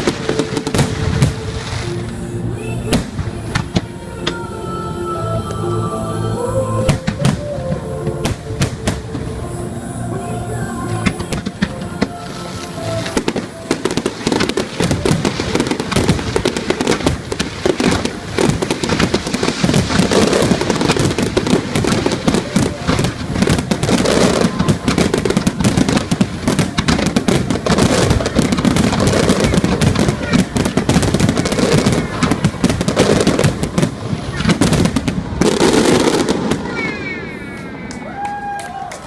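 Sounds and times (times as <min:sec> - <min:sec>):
fireworks bursts and crackling: 0:00.0 - 0:04.4, 0:06.8 - 0:39.0.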